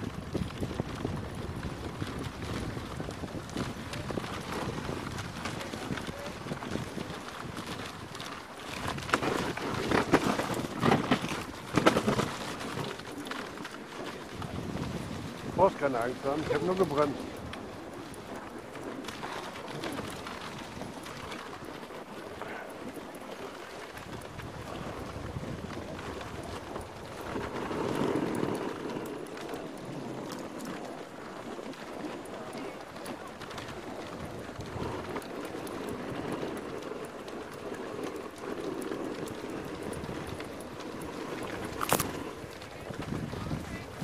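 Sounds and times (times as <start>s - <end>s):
sled crunching over snow: 0.0s - 44.0s
wind on microphone: 0.0s - 44.0s.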